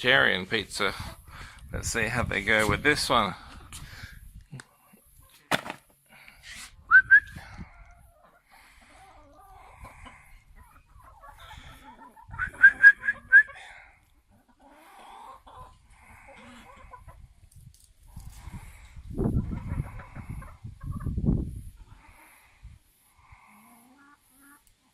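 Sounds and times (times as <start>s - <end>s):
chickens clucking and calling: 0.8s - 1.7s, 3.1s - 5.5s, 6.6s - 24.9s.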